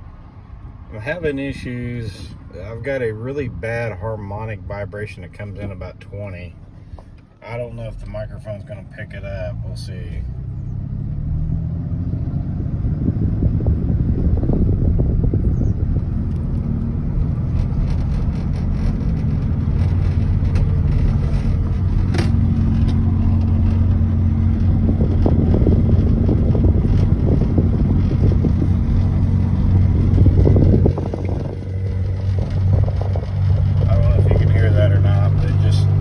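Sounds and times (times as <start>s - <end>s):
road rumble: 0.0s - 36.0s
low droning hum: 6.5s - 36.0s.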